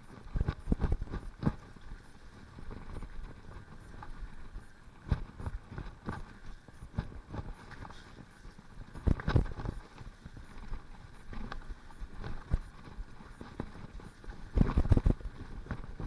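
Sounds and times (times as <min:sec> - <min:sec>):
bike knocking and rattling: 0:00.0 - 0:16.0
wind: 0:00.0 - 0:16.0.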